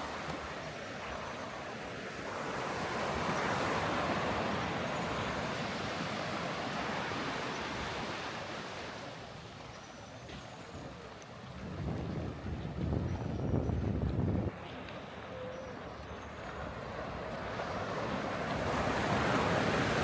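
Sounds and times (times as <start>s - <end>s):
waves washing on sandy beach: 0.0s - 20.0s.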